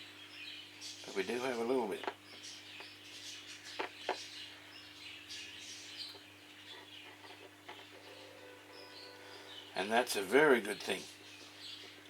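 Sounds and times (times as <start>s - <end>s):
faint bird chirps: 0.0s - 12.0s
low steady hum: 0.0s - 12.0s.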